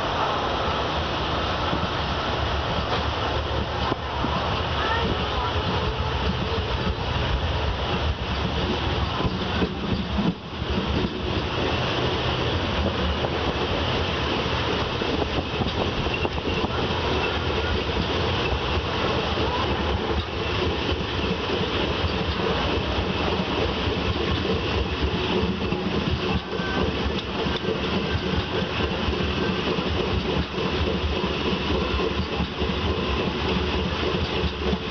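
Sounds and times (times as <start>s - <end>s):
train running: 0.0s - 34.9s.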